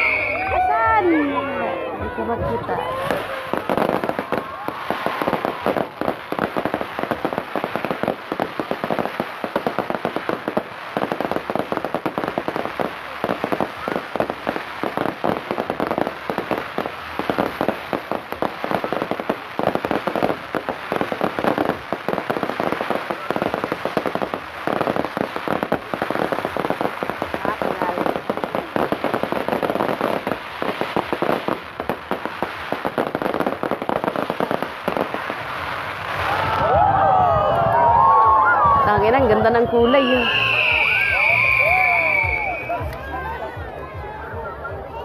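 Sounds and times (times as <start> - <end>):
fireworks crackling: 0.0 - 45.0.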